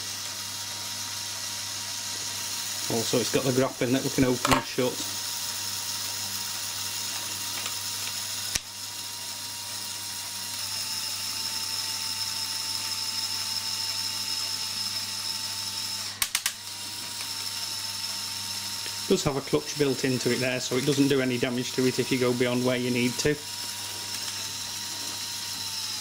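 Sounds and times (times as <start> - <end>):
toy electric motor whining: 0.0 - 26.0.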